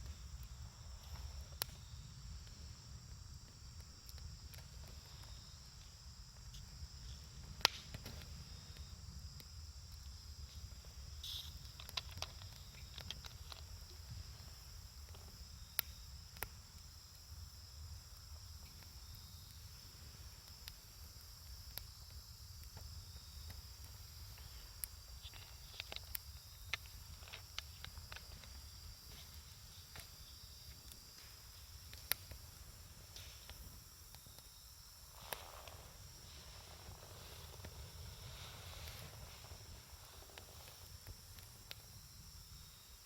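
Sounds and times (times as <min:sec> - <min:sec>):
sharp fire pops: 0:00.0 - 0:42.0
campfire crackling: 0:00.0 - 0:43.0
high insect trill: 0:00.0 - 0:43.0.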